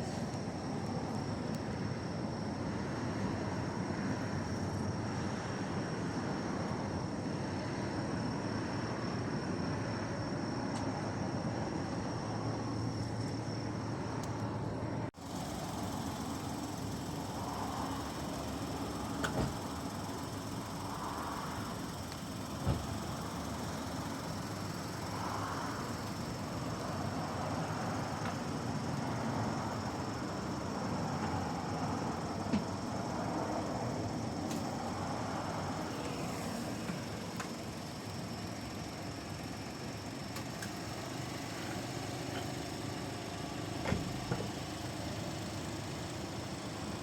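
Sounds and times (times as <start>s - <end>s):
hum of engines and traffic: 0.0s - 47.0s.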